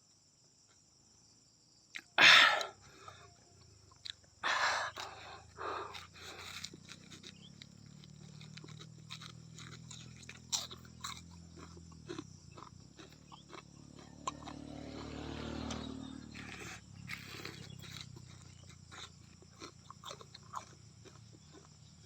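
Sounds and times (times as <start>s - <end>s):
person chewing crunchy bites: 2.0s - 22.0s.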